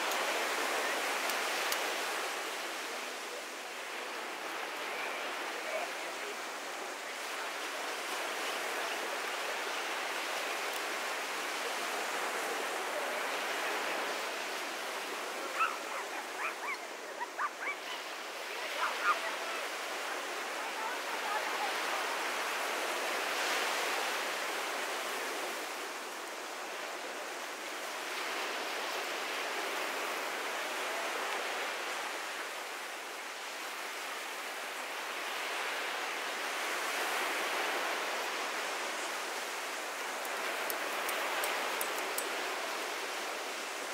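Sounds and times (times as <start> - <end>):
waves breaking on beach: 0.0 - 43.9.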